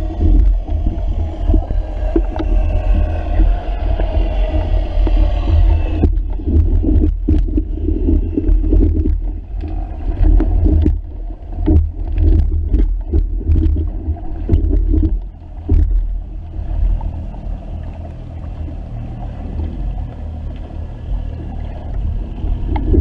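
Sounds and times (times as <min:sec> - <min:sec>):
water slapping against hull: 0:00.0 - 0:23.0
wind rumbling on microphone: 0:00.0 - 0:23.0.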